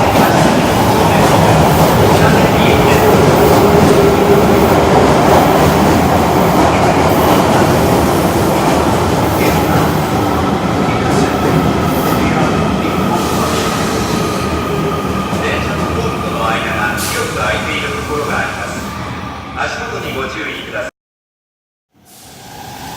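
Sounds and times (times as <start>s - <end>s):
subway train wheel and rail noise: 0.0s - 20.9s, 22.0s - 22.9s.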